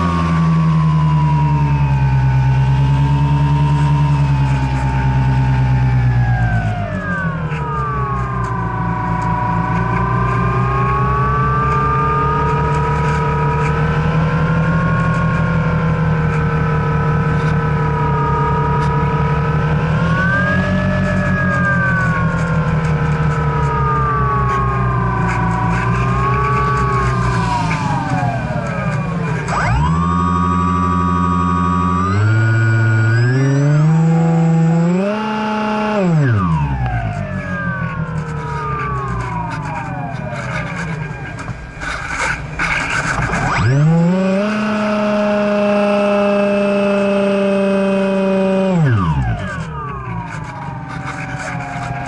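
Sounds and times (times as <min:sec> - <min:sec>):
electric motor and propeller whining: 0:00.0 - 0:52.0.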